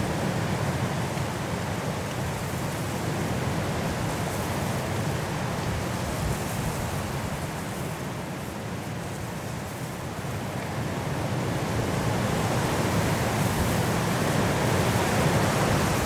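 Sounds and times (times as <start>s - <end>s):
strong wind through trees: 0.0s - 16.0s.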